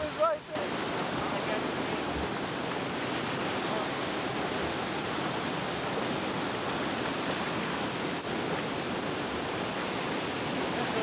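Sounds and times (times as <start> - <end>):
river water rushing over dam: 0.0 - 11.0.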